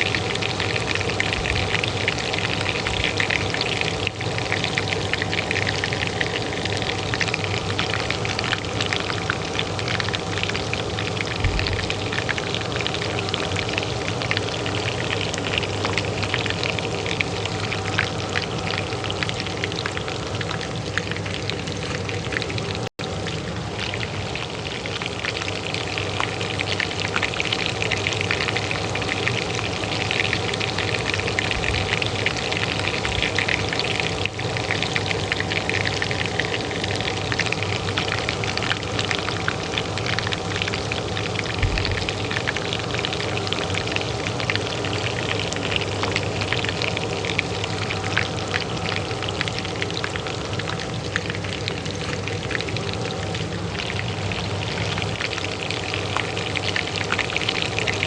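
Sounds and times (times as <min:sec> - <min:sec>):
oil frying in a pan: 0:00.0 - 0:58.0
range hood fan humming: 0:00.0 - 0:58.0.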